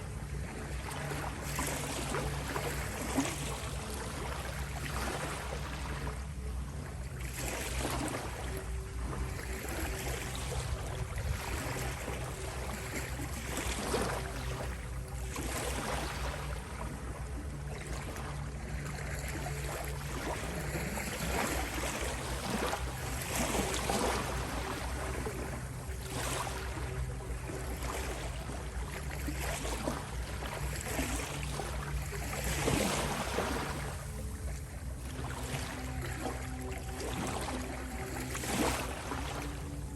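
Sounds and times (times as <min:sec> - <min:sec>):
ocean waves splashing: 0:00.0 - 0:39.9
steady sustained tones: 0:00.0 - 0:39.9.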